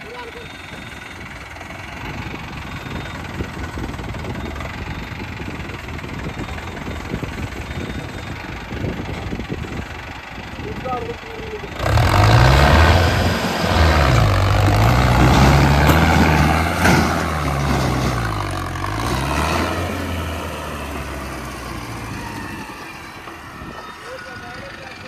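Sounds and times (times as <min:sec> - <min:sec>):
tractor engine labouring: 0:00.0 - 0:25.0.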